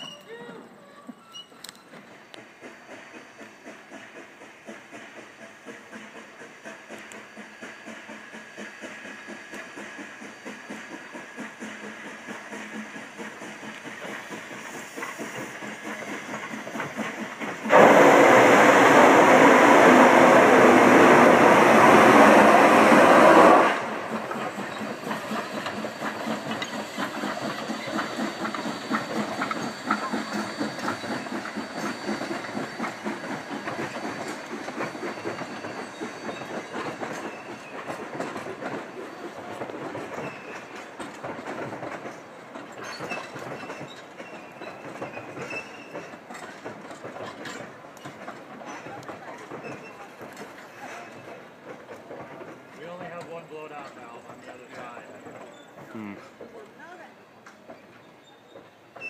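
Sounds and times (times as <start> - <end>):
locomotive steam hiss: 0.0 - 59.0
train wheels clickety-clack: 0.0 - 59.0.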